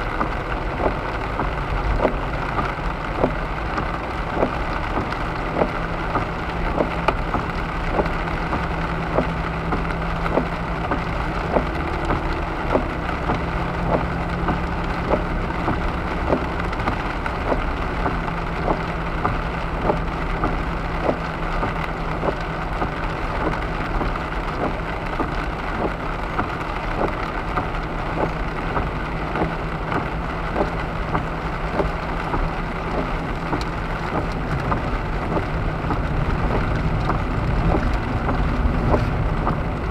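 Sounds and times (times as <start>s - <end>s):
car hum on wet road: 0.0s - 39.9s
rain pattering on car: 0.0s - 39.9s.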